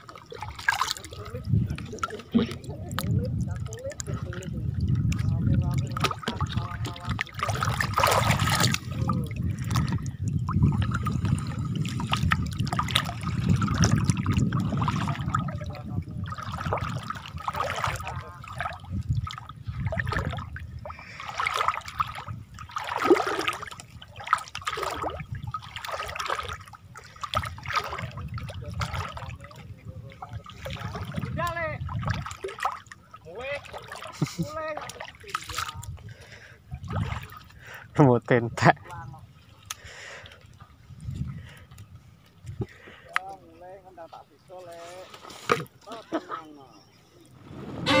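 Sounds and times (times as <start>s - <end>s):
water sloshing from wading: 0.0s - 48.0s.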